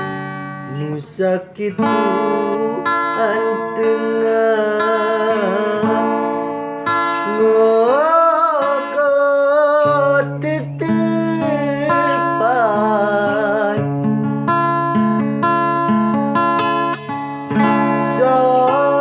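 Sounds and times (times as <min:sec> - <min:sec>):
person singing: 0:00.0 - 0:14.2, 0:17.7 - 0:19.0
plucked strings: 0:00.0 - 0:19.0.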